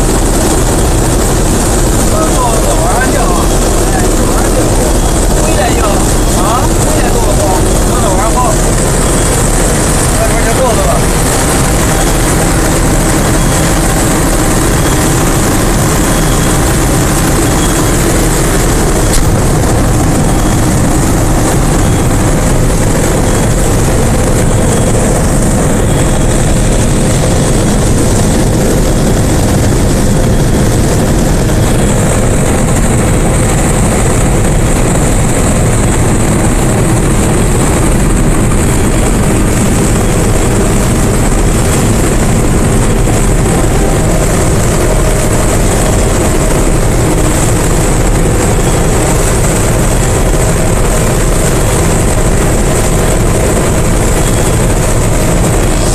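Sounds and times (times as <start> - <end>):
combine harvester drone: 0.0 - 55.9.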